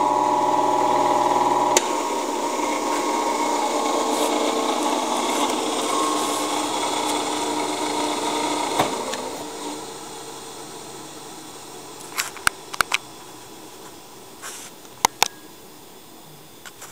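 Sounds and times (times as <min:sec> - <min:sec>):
phase converter humming: 0:00.0 - 0:16.6.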